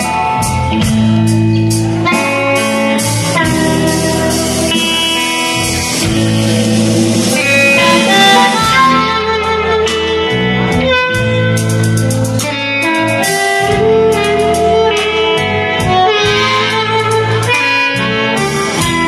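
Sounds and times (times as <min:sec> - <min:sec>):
bass guitar: 0:00.0 - 0:19.0
drums: 0:00.0 - 0:19.0
electric guitars: 0:00.0 - 0:19.0
harmonica long held notes: 0:00.0 - 0:19.0.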